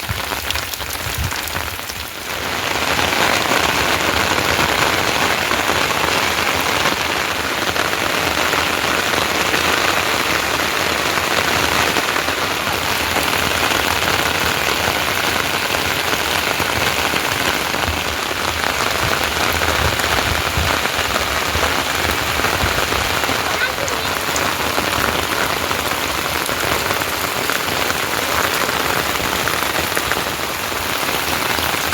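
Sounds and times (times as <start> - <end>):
heavy rain pattering: 0.0 - 31.9.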